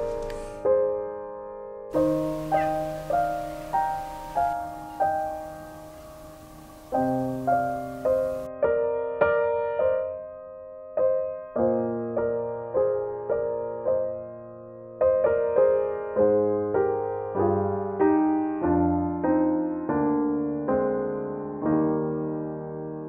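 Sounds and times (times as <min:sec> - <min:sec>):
slow gentle piano music: 0:00.0 - 0:23.0.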